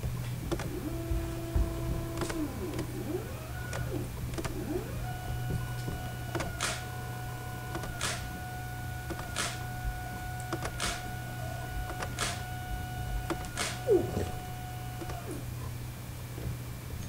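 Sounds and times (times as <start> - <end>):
stepper motor whining: 0.0 - 15.9
low steady hum: 0.0 - 17.0.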